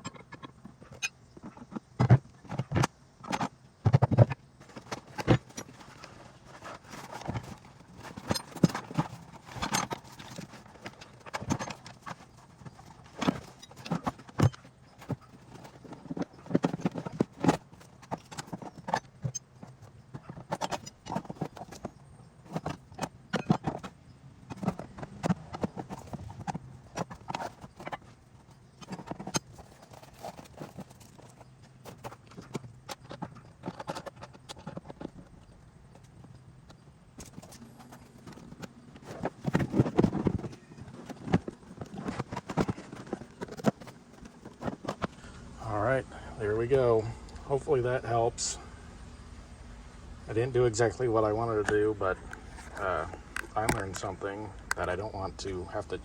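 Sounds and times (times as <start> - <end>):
car tools clunking and rattling: 0.0 - 45.5.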